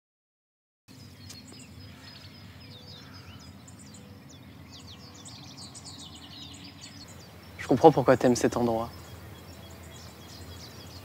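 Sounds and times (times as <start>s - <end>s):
outdoor background noise: 0.9s - 11.0s
songbirds chirping: 0.9s - 11.0s.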